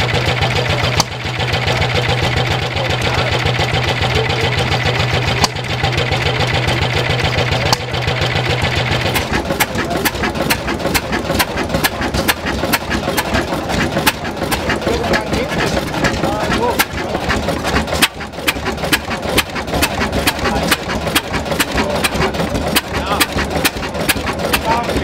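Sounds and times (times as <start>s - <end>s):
large stationary engine ticking slowly: 0.0s - 25.0s
small stationary engine running: 0.0s - 25.0s.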